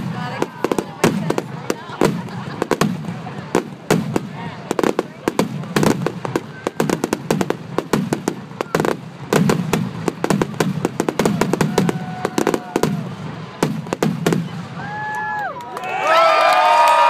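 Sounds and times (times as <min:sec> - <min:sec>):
fireworks bursting: 0:00.0 - 0:15.4.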